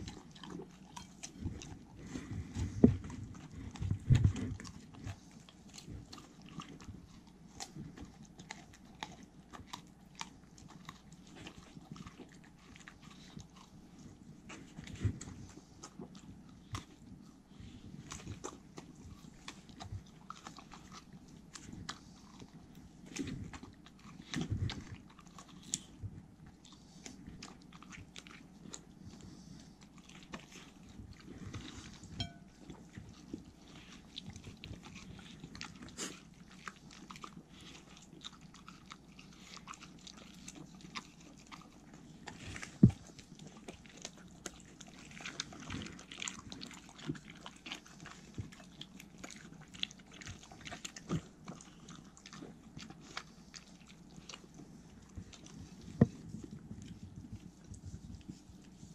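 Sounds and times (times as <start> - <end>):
dogs chewing melon: 0.0 - 58.9.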